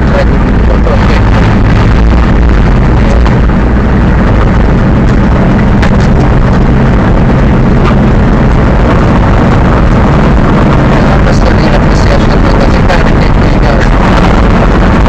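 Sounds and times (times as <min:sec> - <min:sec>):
truck engine running loud: 0:00.0 - 0:15.0.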